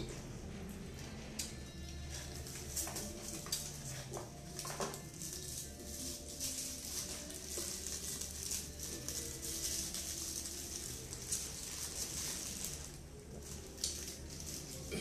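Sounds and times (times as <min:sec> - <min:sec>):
paper wrapper crinkling: 0:01.5 - 0:15.0.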